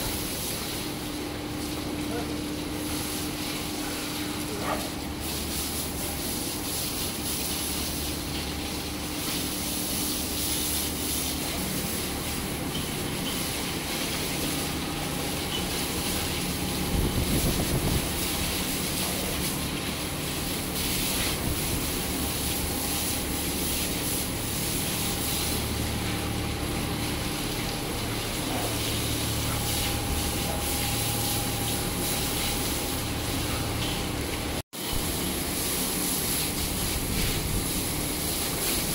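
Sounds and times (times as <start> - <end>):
hose water spraying: 0.0 - 38.9.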